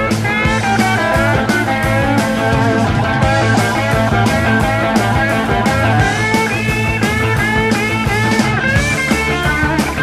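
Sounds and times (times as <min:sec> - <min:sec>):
rock music with guitar and drums: 0:00.0 - 0:10.0.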